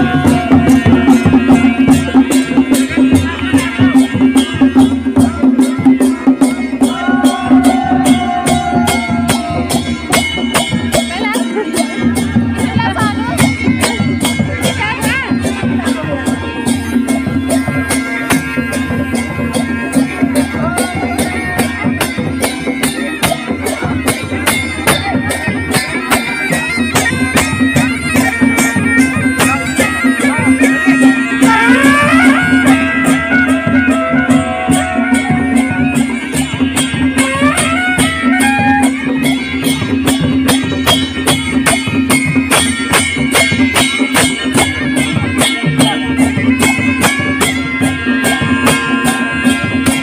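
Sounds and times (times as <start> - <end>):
bagpipe drone and melody: 0.0 - 10.2, 15.1 - 50.0
cymbals beating: 0.0 - 50.0
drum beat: 0.0 - 50.0.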